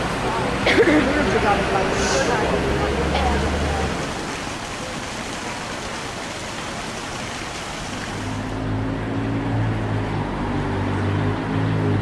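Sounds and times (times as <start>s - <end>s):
rushing outdoor noise: 0.0s - 12.0s.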